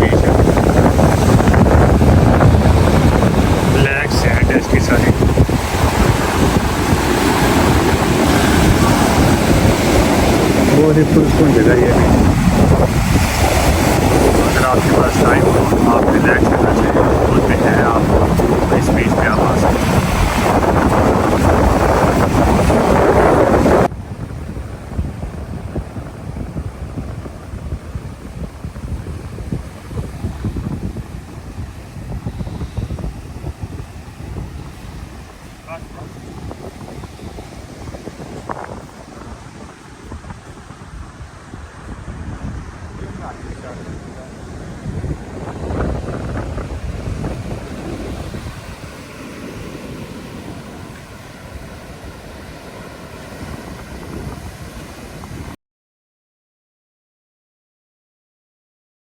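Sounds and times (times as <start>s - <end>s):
gusty wind buffeting microphone: 0.0s - 55.6s
waves washing on beach: 0.0s - 55.6s.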